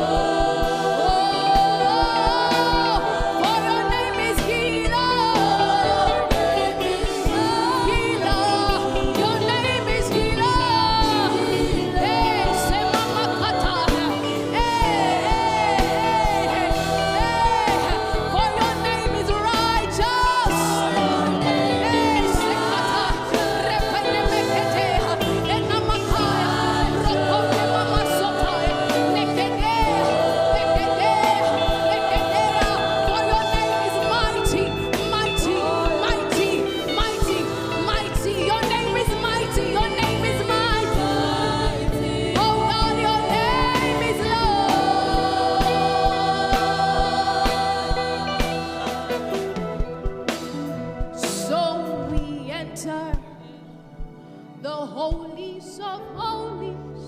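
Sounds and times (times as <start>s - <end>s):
gospel singing: 0.0s - 57.0s
keyboard chords: 0.0s - 57.0s.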